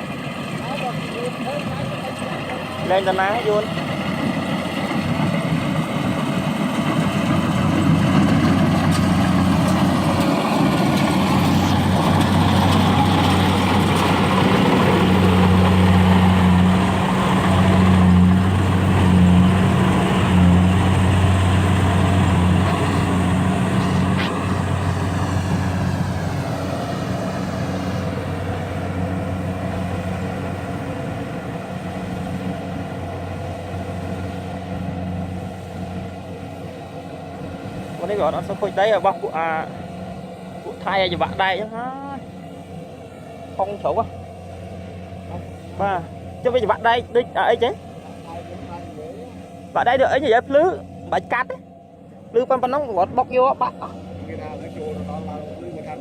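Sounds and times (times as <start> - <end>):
heavy engine humming: 0.0 - 56.0.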